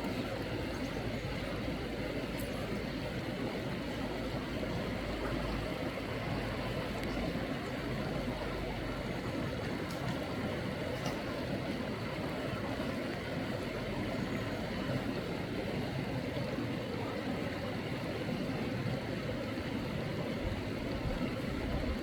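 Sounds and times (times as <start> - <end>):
stream flowing: 0.0 - 22.0.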